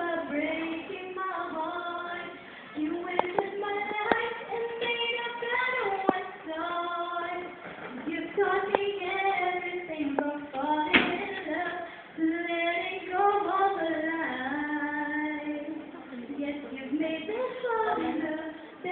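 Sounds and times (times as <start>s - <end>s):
woman singing into microphone: 0.0s - 18.9s.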